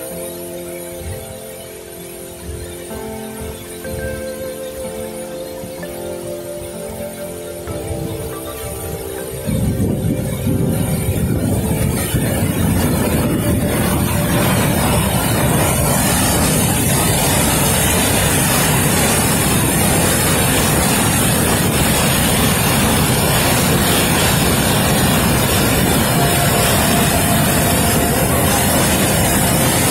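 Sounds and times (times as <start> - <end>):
waterfall rushing over rocks: 0.0 - 29.9.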